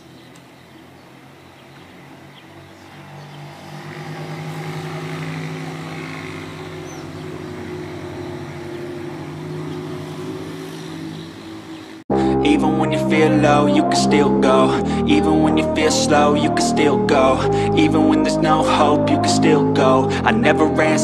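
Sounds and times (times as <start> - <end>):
low engine drone: 2.0 - 21.0.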